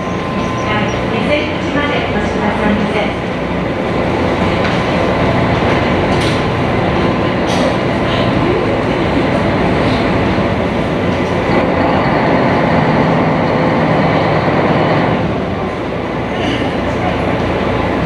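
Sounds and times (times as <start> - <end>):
boat engine running: 0.0 - 18.0
water rushing along hull: 0.0 - 18.0.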